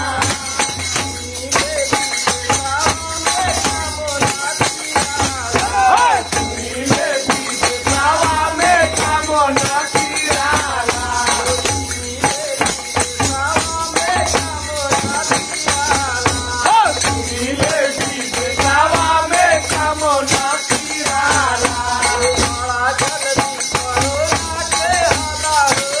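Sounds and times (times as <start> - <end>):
hand-beaten frame drum: 0.0 - 26.0
men singing together: 0.0 - 26.0
small hand cymbals: 0.0 - 26.0.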